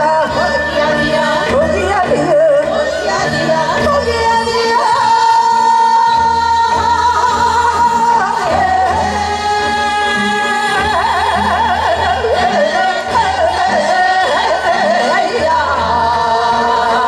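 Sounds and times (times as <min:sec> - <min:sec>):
backing music: 0:00.0 - 0:17.0
women singing together: 0:00.0 - 0:17.0.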